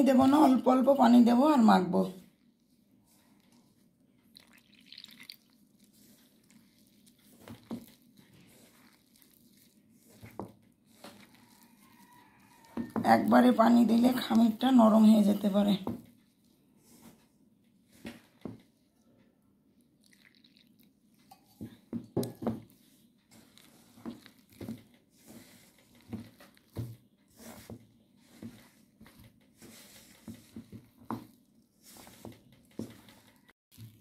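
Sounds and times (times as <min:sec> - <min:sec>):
hand kneading dough in a bowl: 0:00.0 - 0:34.0.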